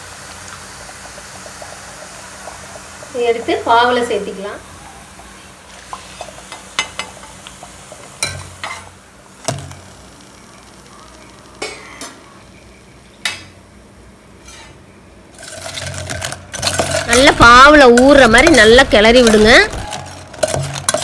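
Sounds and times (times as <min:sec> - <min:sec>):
faint oil sizzling: 0:00.0 - 0:21.0.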